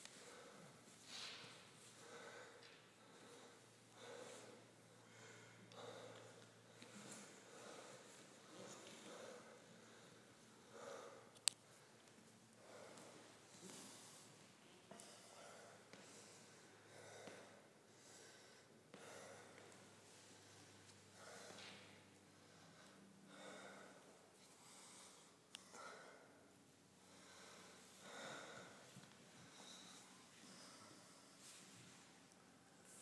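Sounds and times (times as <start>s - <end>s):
slow noisy breathing: 0.0s - 32.1s
low steady hum: 0.0s - 33.0s.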